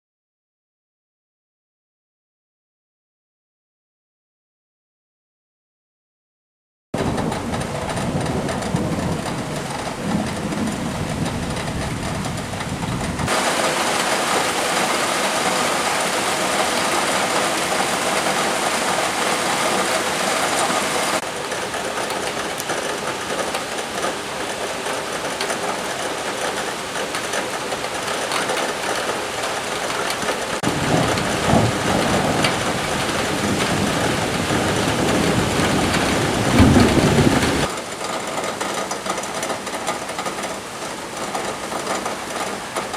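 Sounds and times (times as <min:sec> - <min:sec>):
heavy rain pouring: 0:07.0 - 0:42.9.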